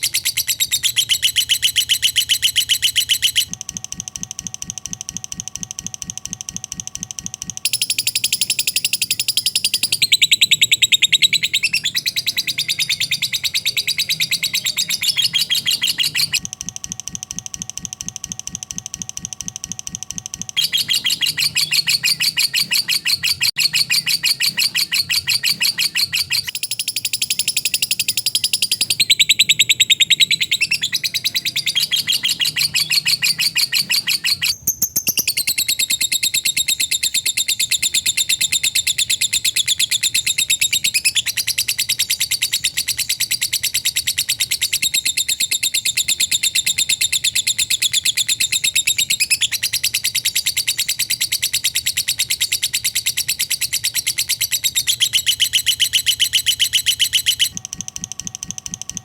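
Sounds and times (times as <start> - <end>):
bird chattering trill: 0.0 - 3.6, 7.4 - 16.5, 20.2 - 59.0.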